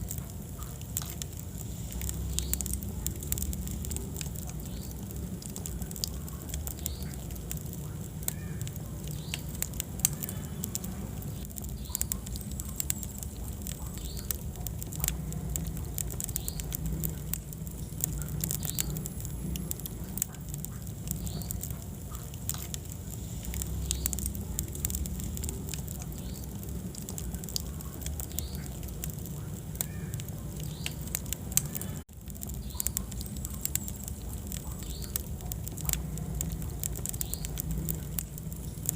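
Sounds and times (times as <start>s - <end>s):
sharp pops and snaps: 0.0s - 38.9s
wood fire crackling: 0.0s - 38.9s.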